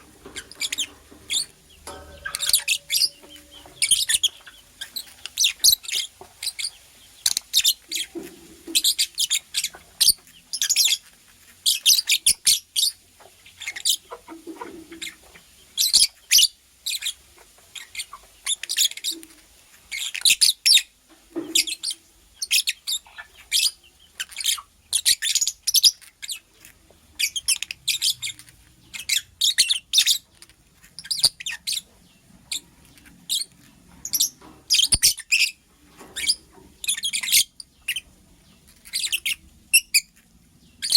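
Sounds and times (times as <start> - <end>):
bird chirping: 0.1 - 20.8, 21.4 - 40.9.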